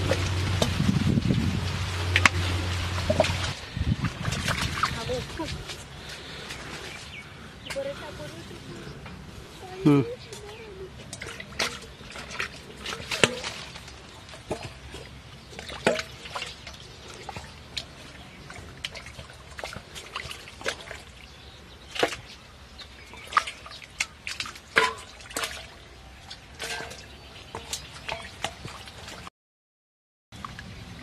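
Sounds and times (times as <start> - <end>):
muddy water splashing: 0.0 - 29.3.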